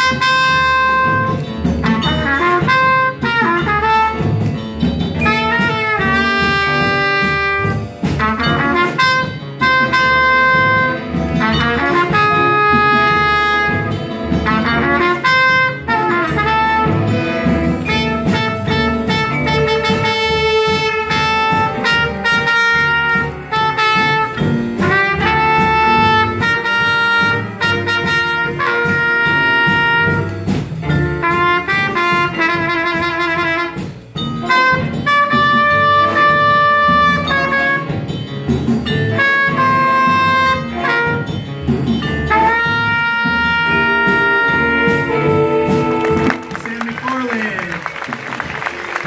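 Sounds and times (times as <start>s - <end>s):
trumpet solo: 0.0s - 4.4s, 5.2s - 30.5s, 31.2s - 38.1s, 39.0s - 41.4s, 42.2s - 49.0s
jazz big band playing: 0.0s - 49.0s.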